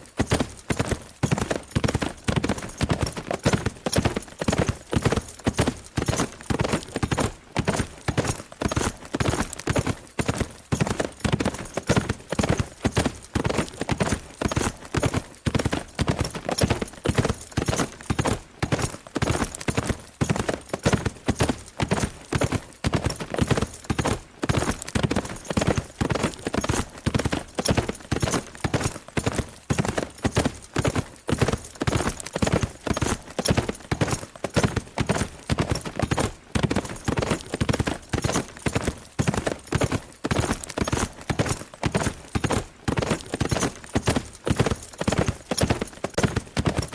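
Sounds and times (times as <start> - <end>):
horse hoofbeats galloping: 0.0 - 46.9.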